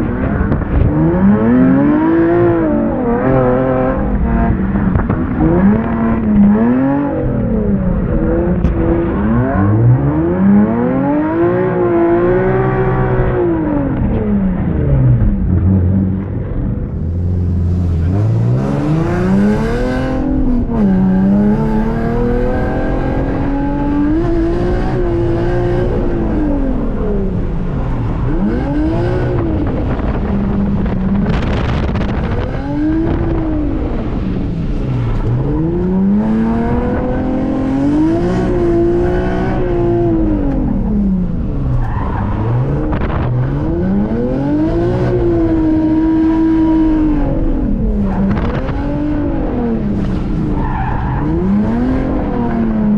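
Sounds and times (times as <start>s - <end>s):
car engine revving hard: 0.0s - 14.7s, 15.6s - 52.9s.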